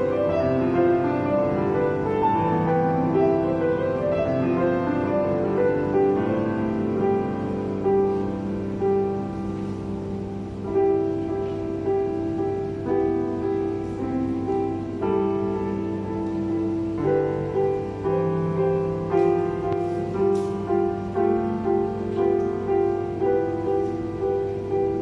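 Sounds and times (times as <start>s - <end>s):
faint steady hum: 0.0s - 25.0s
grand piano playing: 0.0s - 25.0s.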